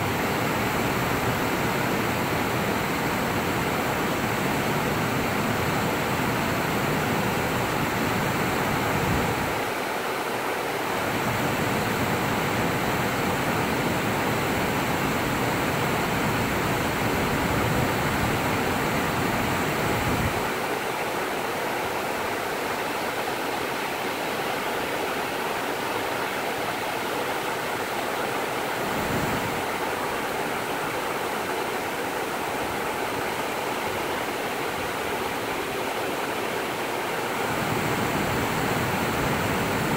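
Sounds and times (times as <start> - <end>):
water rushing over rock ledges: 0.0 - 39.9.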